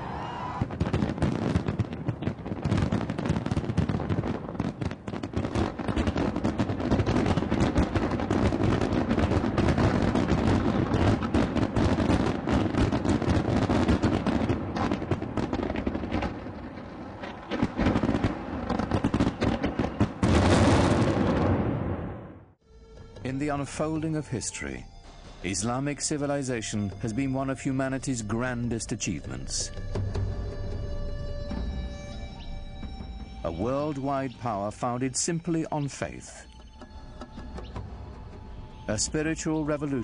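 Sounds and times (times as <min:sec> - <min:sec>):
fireworks bangs and crackles: 0:00.0 - 0:22.4, 0:25.2 - 0:40.0.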